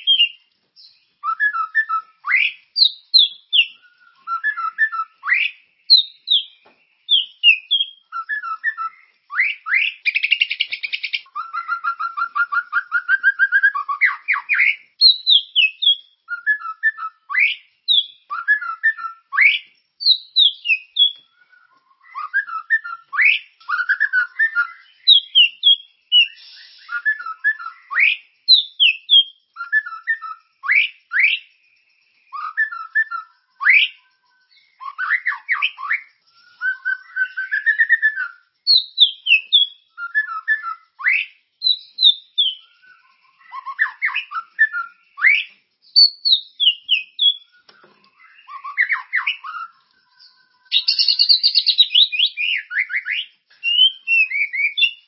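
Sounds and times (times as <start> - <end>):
songbird singing whistled phrases: 0.0 - 55.0.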